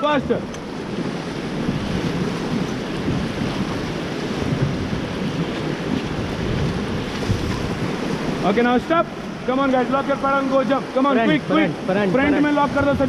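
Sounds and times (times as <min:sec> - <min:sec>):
whitewater rushing and splashing: 0:00.0 - 0:13.0
wind buffeting microphone: 0:00.0 - 0:13.0.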